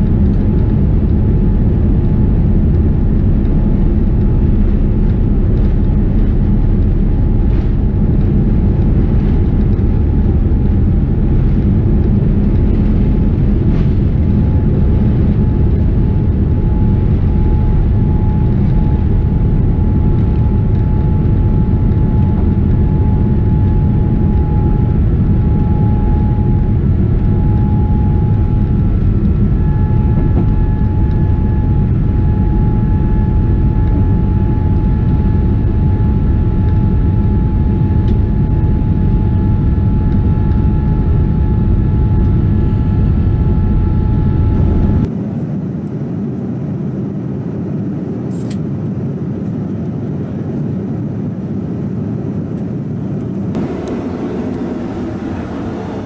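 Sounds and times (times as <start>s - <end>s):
cabin hum: 0.0s - 45.1s, 53.5s - 56.0s
jet engines roaring: 0.0s - 56.0s.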